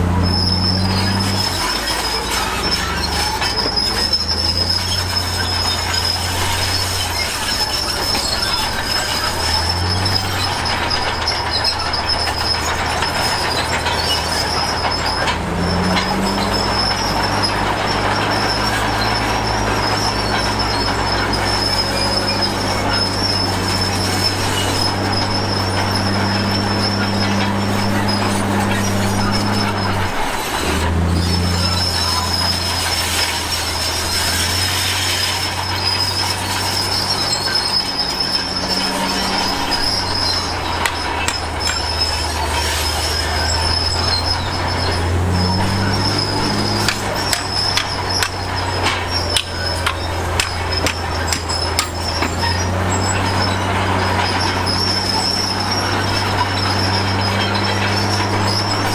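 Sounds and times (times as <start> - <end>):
bulldozer diesel engine running: 0.0 - 58.9
sharp clicks and knocks: 0.0 - 58.9
steel tracks squealing and clanking: 0.0 - 58.9.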